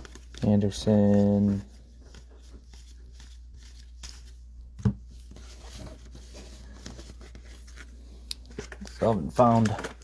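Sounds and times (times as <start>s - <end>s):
cards sliding and rustling: 0.0s - 10.0s.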